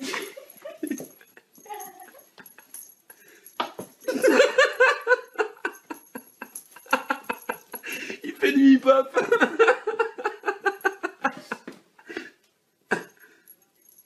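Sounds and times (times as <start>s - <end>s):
person giggling: 0.0s - 3.4s, 4.0s - 13.2s.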